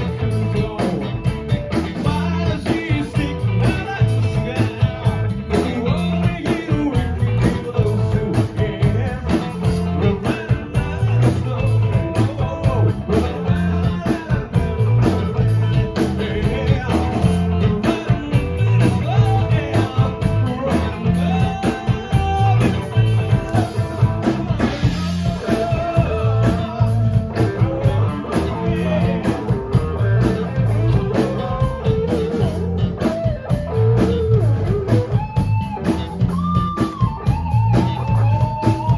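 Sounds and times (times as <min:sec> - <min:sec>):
person singing: 0:00.0 - 0:32.6
live rock band playing: 0:00.0 - 0:38.9.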